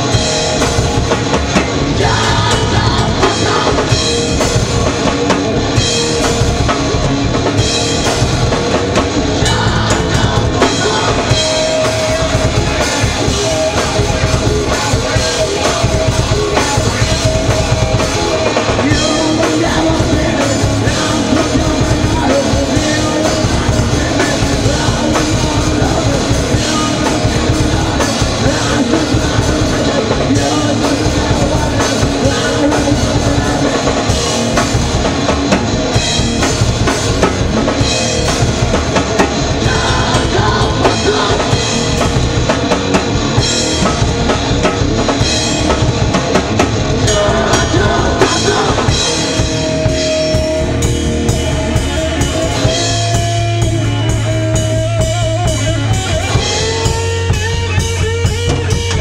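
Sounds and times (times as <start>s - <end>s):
amplified electric guitar: 0.0s - 59.0s
drum kit with cymbals: 0.0s - 59.0s.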